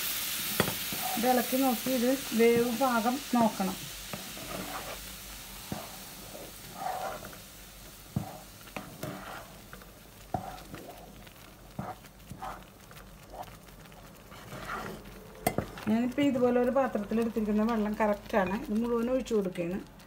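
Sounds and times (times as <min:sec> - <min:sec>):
food bubbling and sizzling in pot: 0:00.0 - 0:20.0.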